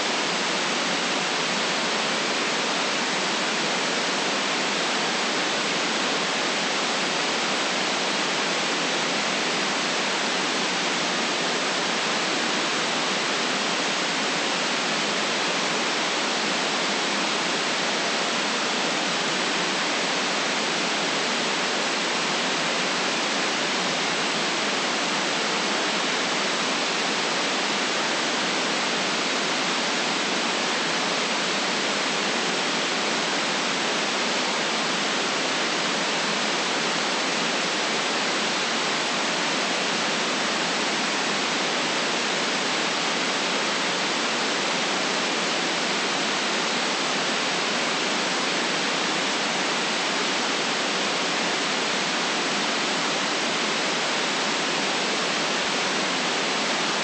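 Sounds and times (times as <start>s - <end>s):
filtered white noise hiss: 0.0s - 57.0s.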